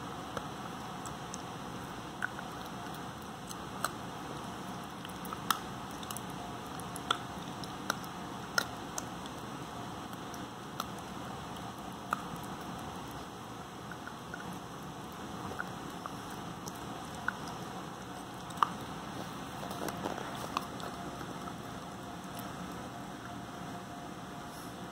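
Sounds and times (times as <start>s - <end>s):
puppy teeth crunching on chew: 0.2s - 23.4s.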